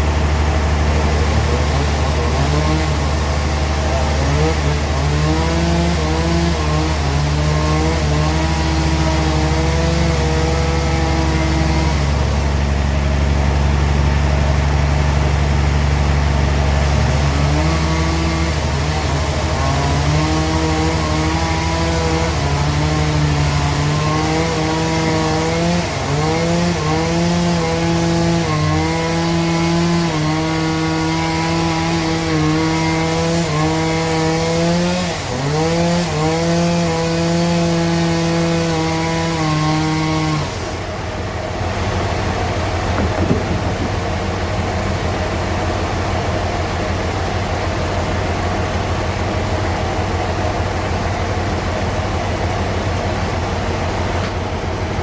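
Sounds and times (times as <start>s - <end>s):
bandsaw cutting log: 0.0s - 55.0s
dull machine noise: 0.0s - 55.0s.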